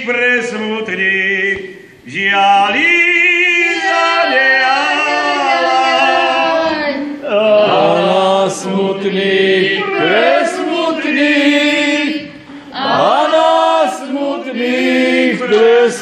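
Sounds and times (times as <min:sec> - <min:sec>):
group singing slow lament: 0:00.0 - 0:16.0.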